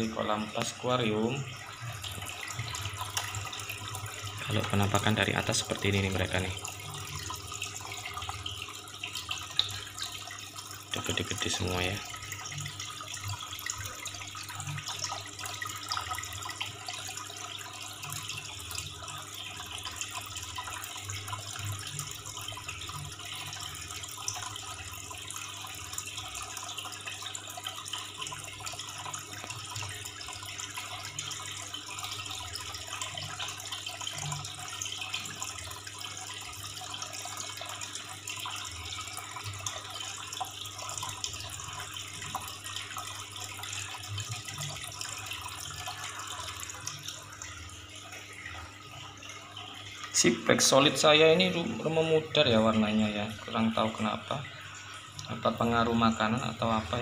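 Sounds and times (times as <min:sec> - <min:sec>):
aquarium water running and splashing: 0:00.0 - 0:57.0.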